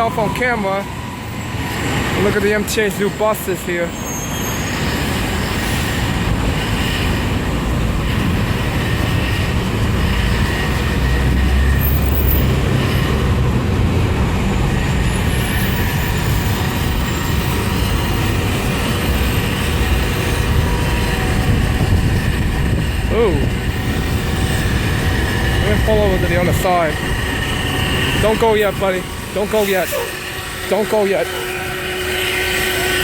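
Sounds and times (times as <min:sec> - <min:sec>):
bus engine rumbling: 0:04.9 - 0:33.0.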